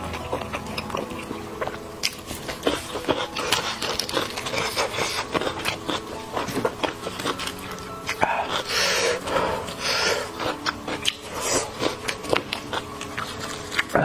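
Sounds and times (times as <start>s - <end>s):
bone and cartilage cracking: 0.0s - 14.0s
chewing and biting: 0.0s - 14.0s.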